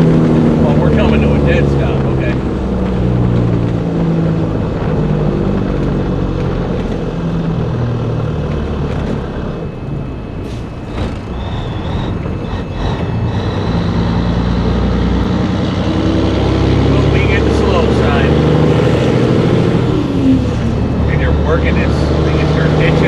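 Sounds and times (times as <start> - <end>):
diesel truck engine: 0.0 - 23.0.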